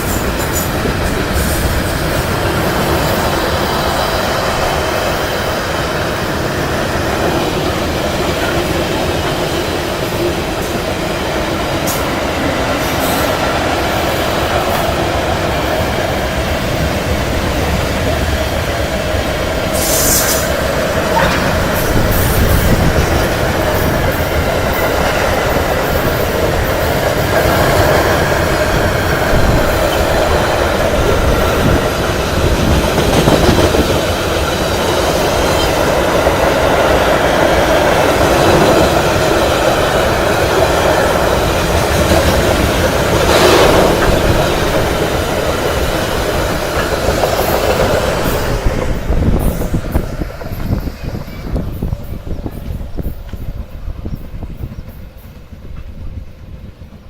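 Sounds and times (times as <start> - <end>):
train wheel squeals: 0.0 - 16.9, 17.6 - 56.6
train wagons rumbling and clattering: 0.0 - 57.0.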